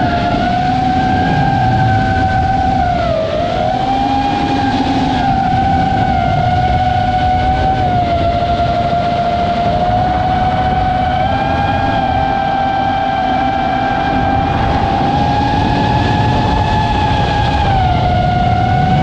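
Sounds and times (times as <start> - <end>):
model plane electric motor whine: 0.0 - 19.0
wind rumble on microphone: 0.0 - 19.0.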